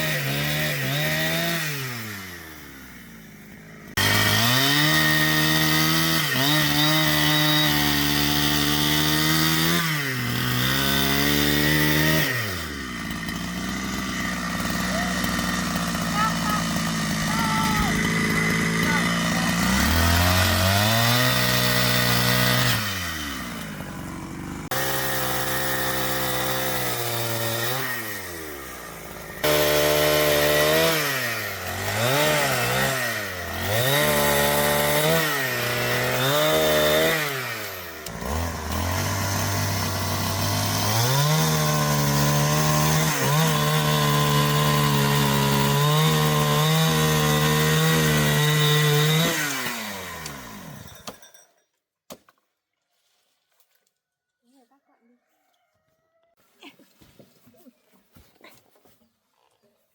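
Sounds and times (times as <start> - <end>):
chainsaw revving: 0.0 - 51.4.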